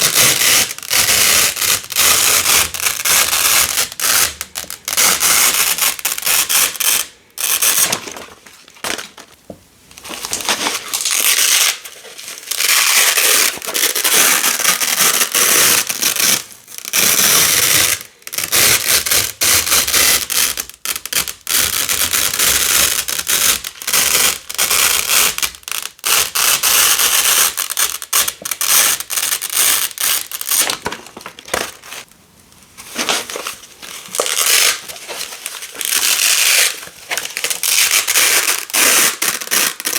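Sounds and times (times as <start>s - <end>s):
velcro ripping apart: 0.0s - 8.2s, 10.2s - 31.8s, 34.0s - 39.9s.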